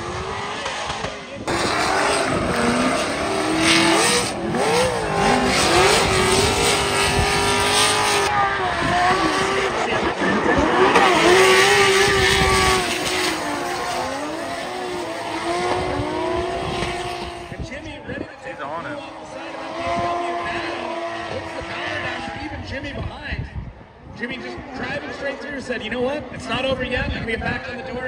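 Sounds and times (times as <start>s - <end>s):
car engines revving hard: 0.0s - 23.1s, 24.3s - 27.4s.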